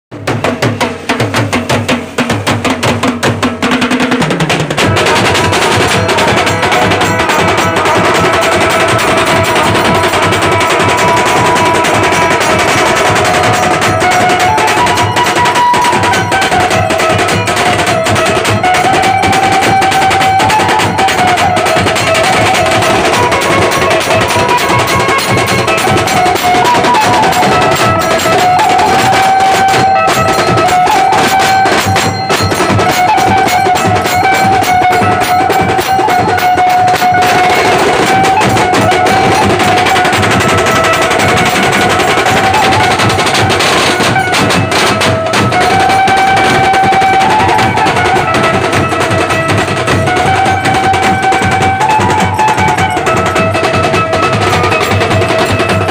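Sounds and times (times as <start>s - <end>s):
drums beating fast rhythm: 0.1s - 55.9s.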